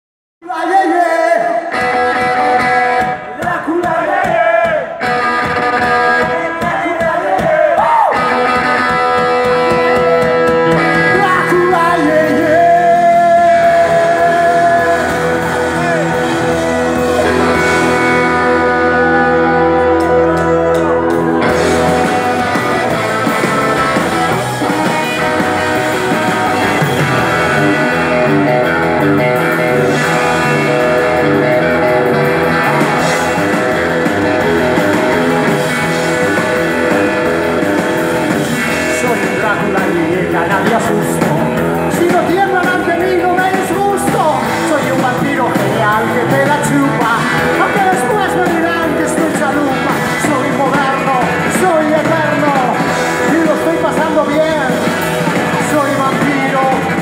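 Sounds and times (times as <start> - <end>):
live rock band playing: 0.5 - 57.0.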